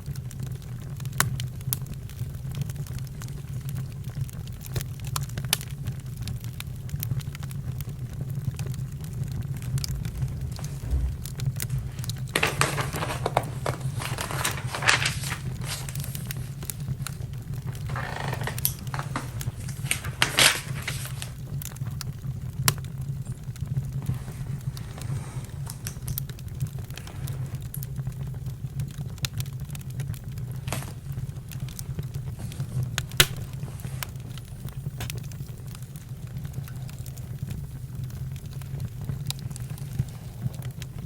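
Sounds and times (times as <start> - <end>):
campfire crackling: 0.0 - 41.0
sharp pops of fire: 0.0 - 41.0.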